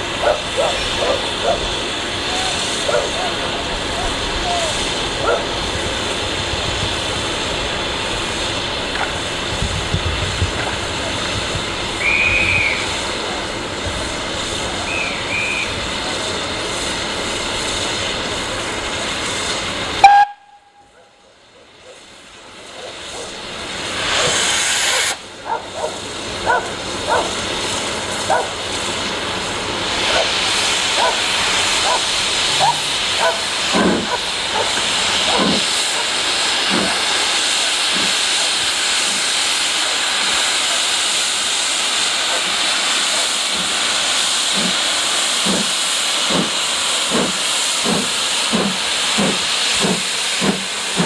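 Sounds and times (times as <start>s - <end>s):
steam hissing from locomotive: 0.0s - 51.0s.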